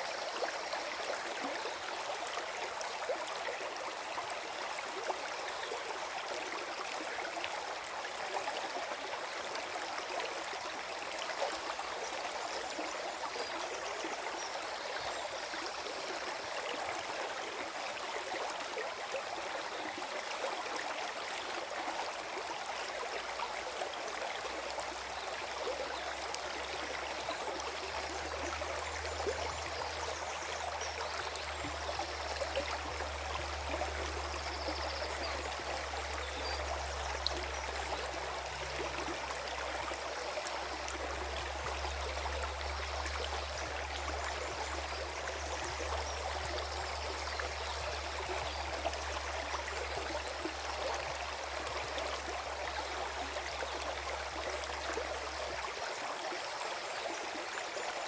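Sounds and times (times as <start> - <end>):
stream gurgling: 0.0 - 58.0.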